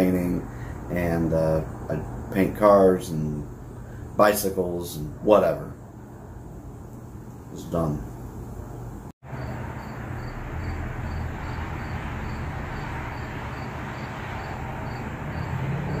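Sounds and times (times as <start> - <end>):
low hum and hiss: 0.0 - 15.1.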